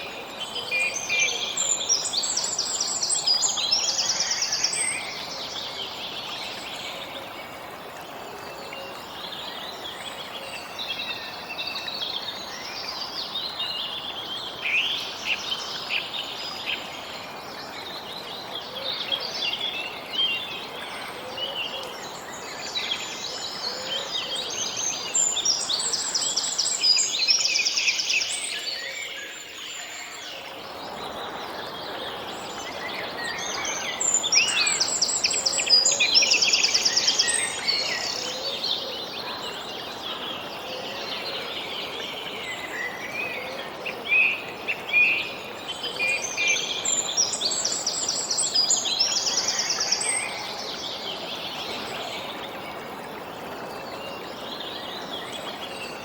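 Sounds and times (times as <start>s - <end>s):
outdoor ambience hiss: 0.0s - 56.0s.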